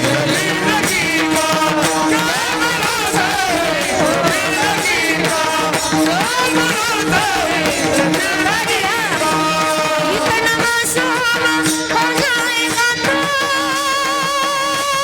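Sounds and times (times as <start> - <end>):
repeating rhythmic accompaniment: 0.0 - 15.0.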